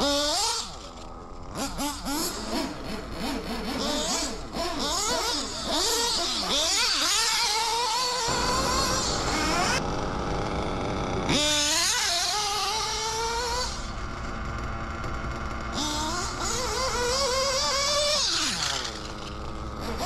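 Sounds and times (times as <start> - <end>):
small nitro engine revving: 0.0 - 20.0.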